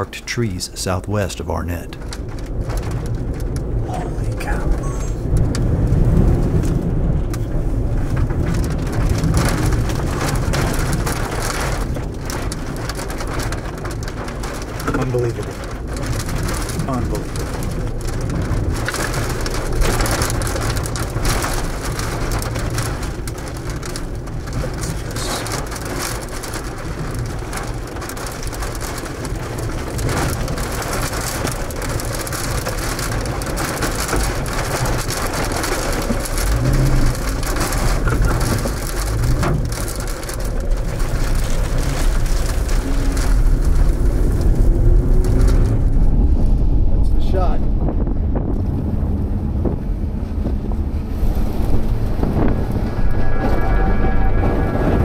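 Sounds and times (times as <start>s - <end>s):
low rumble: 0.0s - 55.0s
rain drops hitting vehicle: 0.0s - 55.0s
wind beating on vehicle: 1.9s - 55.0s.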